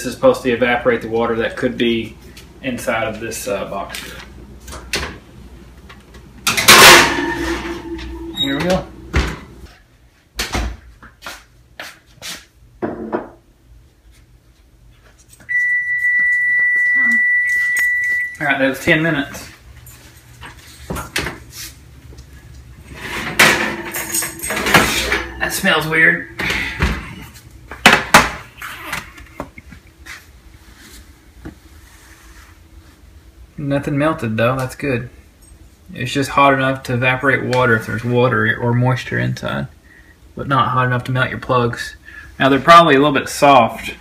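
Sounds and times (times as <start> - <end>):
faint steady hum: 0.0 - 10.4, 12.6 - 44.0.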